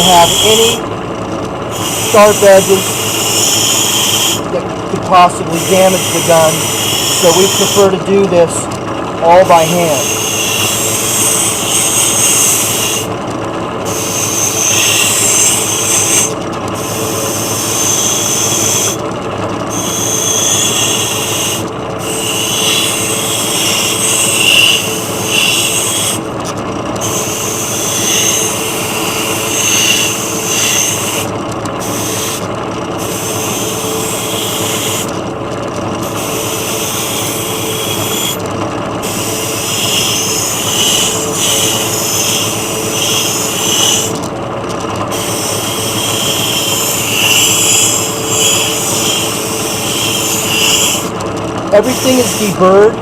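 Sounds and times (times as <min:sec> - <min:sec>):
metal scraping and filing: 0:00.0 - 0:00.8, 0:01.7 - 0:08.5, 0:09.3 - 0:13.1, 0:13.9 - 0:19.0, 0:19.7 - 0:26.2, 0:27.0 - 0:35.1, 0:36.0 - 0:38.4, 0:39.0 - 0:44.2, 0:45.1 - 0:51.2, 0:51.8 - 0:52.9
shop machinery drone: 0:00.0 - 0:53.0.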